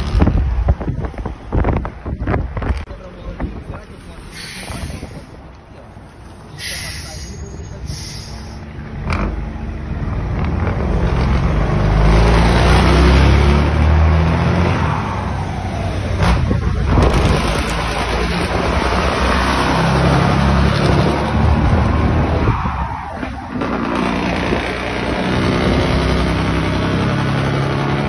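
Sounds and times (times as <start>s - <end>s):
loud road and wind noise: 0.0s - 28.0s.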